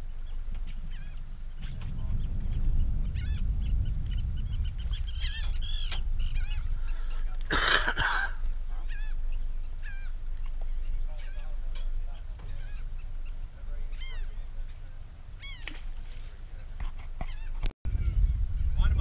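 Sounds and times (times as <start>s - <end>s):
birds calling: 0.0s - 17.7s
wind rumble on microphone: 0.0s - 19.0s.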